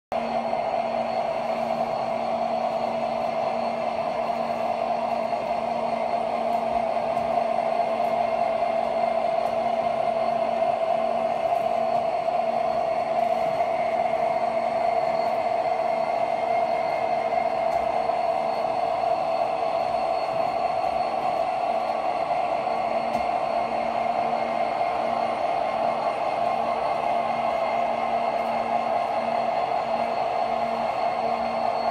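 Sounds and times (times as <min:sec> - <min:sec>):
faint hum: 0:00.2 - 0:31.9
model train cars rolling on track: 0:00.2 - 0:31.9.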